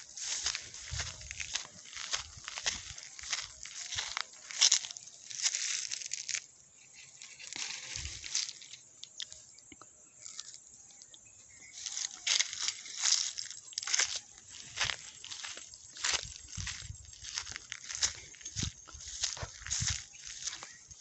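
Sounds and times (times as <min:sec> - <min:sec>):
dry leaves rustling and crunching: 0:00.0 - 0:08.9, 0:11.8 - 0:21.0.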